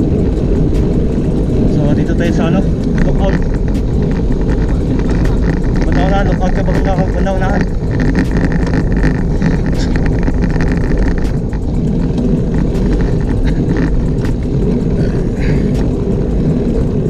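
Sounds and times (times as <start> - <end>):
bike tyres rolling on asphalt: 0.0 - 17.0
faint ticks: 0.0 - 17.0
wind buffeting microphone: 0.0 - 17.0.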